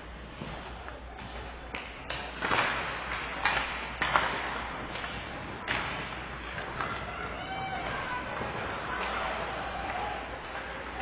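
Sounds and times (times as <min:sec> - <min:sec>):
hockey sticks knocking and scraping: 0:00.0 - 0:11.0.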